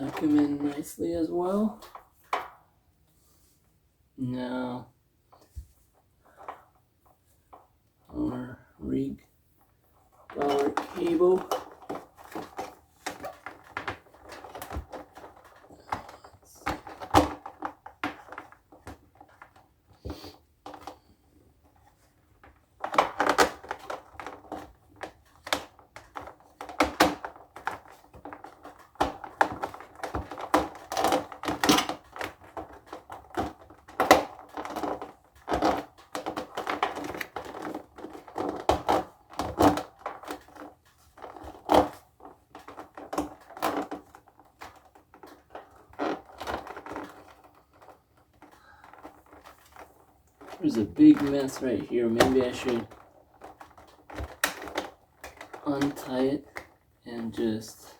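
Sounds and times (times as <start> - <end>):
cable clicks and knocks: 10.2 - 57.9.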